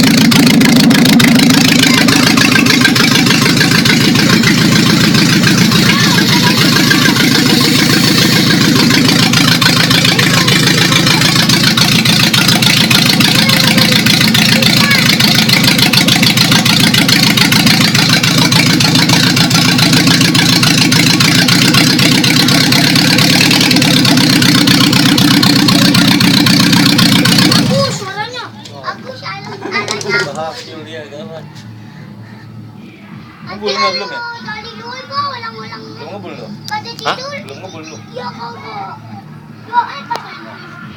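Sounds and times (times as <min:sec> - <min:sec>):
car engine idling: 0:00.0 - 0:40.3.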